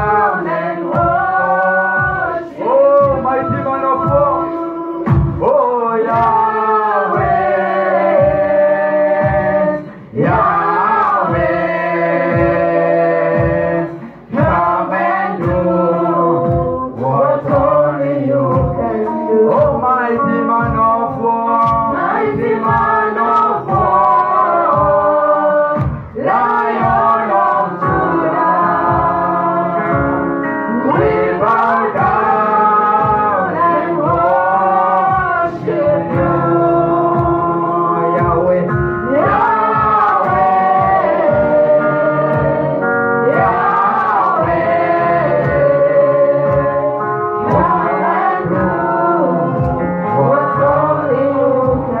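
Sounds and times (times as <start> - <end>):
man singing into a microphone: 0.0 - 42.4, 43.3 - 52.0
instrumental backing with beat: 0.0 - 52.0.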